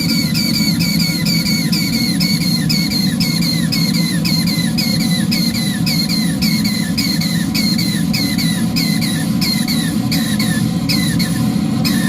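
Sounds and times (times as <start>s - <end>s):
squeaking whistle chirps: 0.0s - 12.0s
steam engine low rush: 0.0s - 12.0s.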